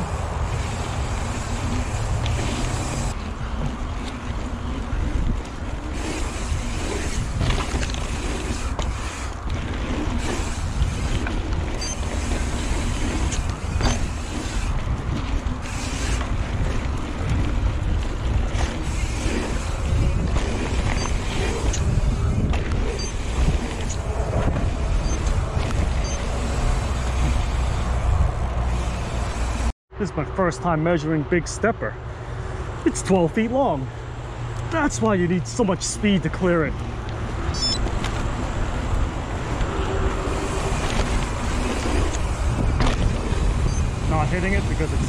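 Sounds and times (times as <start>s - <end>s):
bike tyres rolling on dirt: 0.0s - 29.7s, 32.3s - 45.0s
wind buffeting microphone: 0.0s - 29.7s, 32.3s - 45.0s
bike clicks and knocks: 0.6s - 29.6s, 36.7s - 44.0s.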